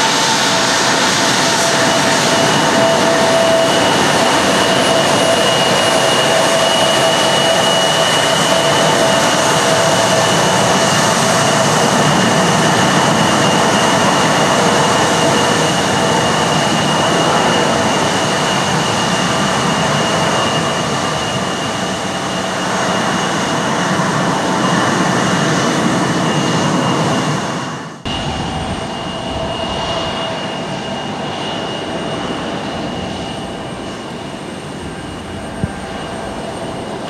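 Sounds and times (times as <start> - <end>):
jet engines rushing and whining: 0.0 - 37.0.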